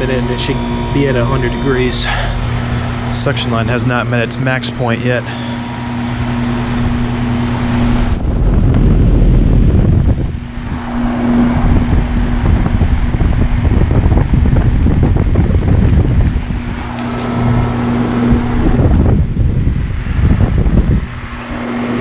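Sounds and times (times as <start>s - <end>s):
heat pump humming: 0.0s - 22.0s
wind buffeting microphone: 0.0s - 22.0s.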